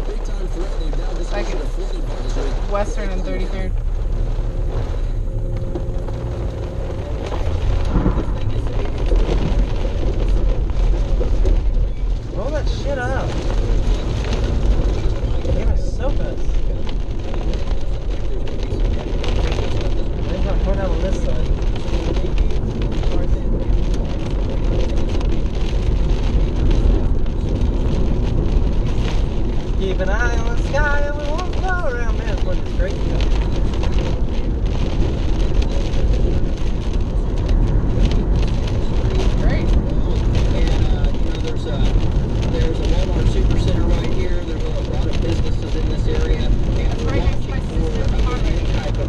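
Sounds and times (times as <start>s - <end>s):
car driving rumble: 0.0s - 49.0s
rain hitting vehicle: 0.0s - 49.0s
road noise: 0.0s - 49.0s.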